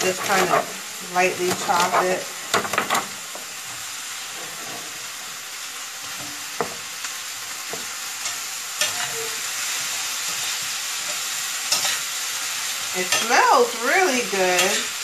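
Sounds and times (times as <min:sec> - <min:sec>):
vegetables sizzling in a skillet: 0:00.0 - 0:15.0.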